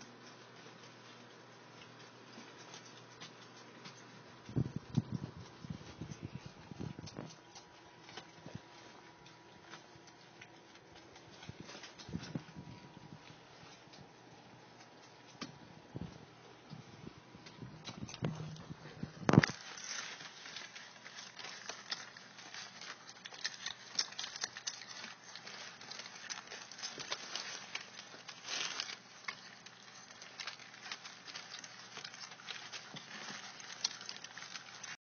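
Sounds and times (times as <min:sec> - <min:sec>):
puppies suckling: 0:00.2 - 0:35.0.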